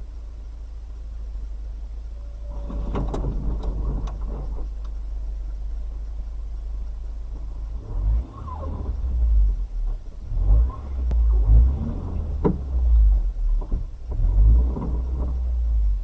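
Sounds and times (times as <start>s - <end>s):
car road rumble: 0.0s - 16.0s.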